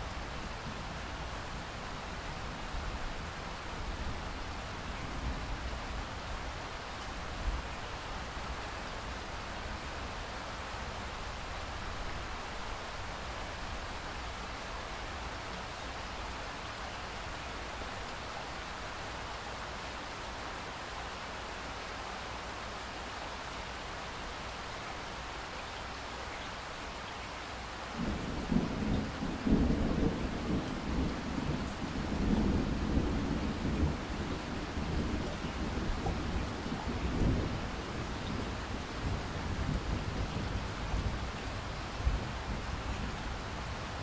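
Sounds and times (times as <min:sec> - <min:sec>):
rain hiss: 0:00.0 - 0:44.0.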